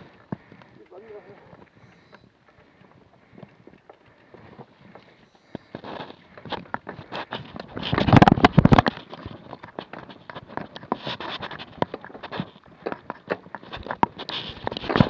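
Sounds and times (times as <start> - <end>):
footsteps on gravel: 0.0 - 15.0
mountain bike clattering on rocks: 0.0 - 15.0.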